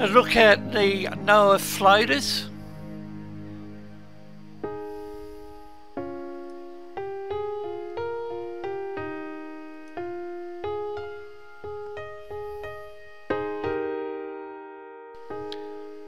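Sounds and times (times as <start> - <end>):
slow piano notes and chords: 0.0 - 16.0.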